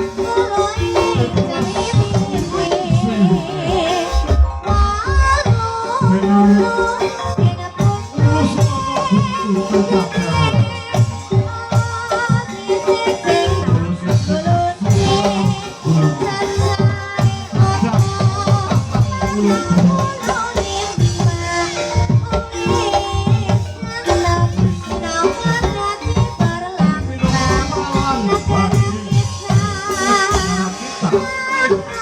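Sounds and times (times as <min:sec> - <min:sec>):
drum strokes: 0:00.0 - 0:32.0
ringing tuned percussion: 0:00.0 - 0:32.0.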